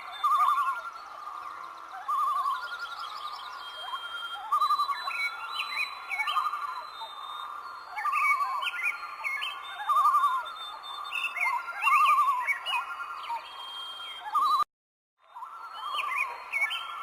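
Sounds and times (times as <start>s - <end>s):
bird warbled trill: 0.0s - 14.7s, 15.3s - 17.0s
sharp rising bird chirps: 0.0s - 14.7s.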